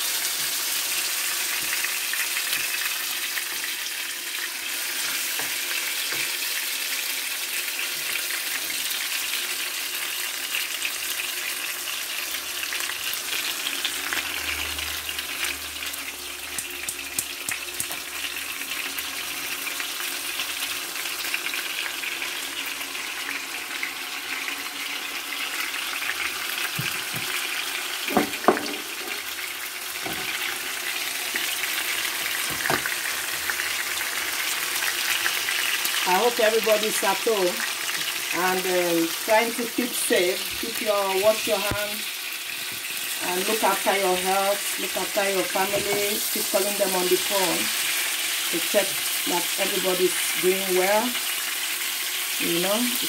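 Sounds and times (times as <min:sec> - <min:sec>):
chicken sizzling in hot oil: 0:00.0 - 0:53.0.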